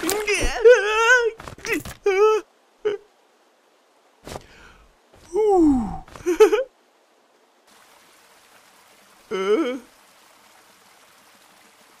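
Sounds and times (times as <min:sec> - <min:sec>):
faint waterfall rushing: 0:00.0 - 0:12.0.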